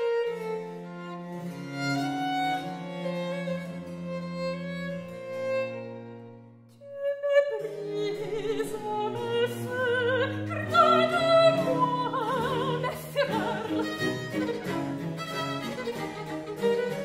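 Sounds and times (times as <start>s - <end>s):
violin with wide vibrato: 0.0s - 17.0s.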